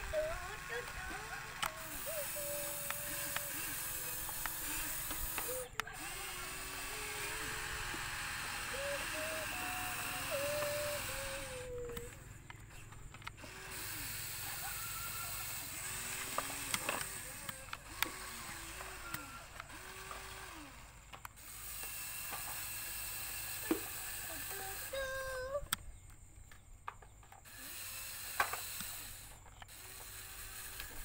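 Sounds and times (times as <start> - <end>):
plastic toys clicking: 0.0 - 25.9, 26.5 - 31.0
child humming engine noises: 0.0 - 26.1, 27.4 - 31.0.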